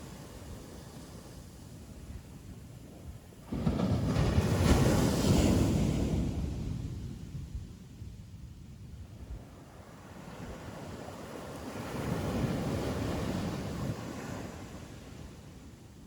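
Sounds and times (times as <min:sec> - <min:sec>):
ocean waves breaking on beach: 0:00.0 - 0:08.0, 0:09.1 - 0:16.0.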